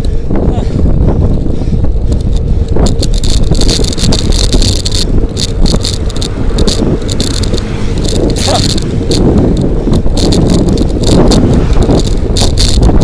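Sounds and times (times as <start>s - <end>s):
bicycle clicks and rattles: 0.0s - 0.2s, 1.0s - 13.0s
wind rushing over microphone: 0.0s - 13.0s.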